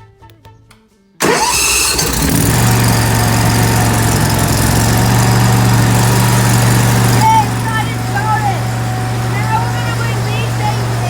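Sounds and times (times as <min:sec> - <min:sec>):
riding mower engine running: 0:01.2 - 0:11.0.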